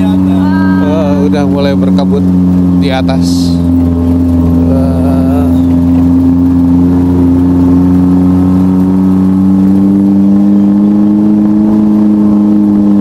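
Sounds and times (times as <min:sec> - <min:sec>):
jeep engine pulling uphill: 0:00.0 - 0:13.0.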